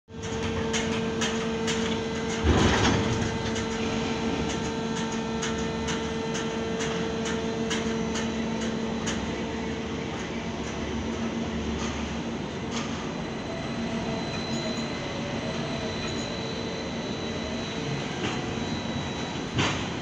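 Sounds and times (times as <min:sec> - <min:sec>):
crane machinery hum: 0:00.1 - 0:20.0.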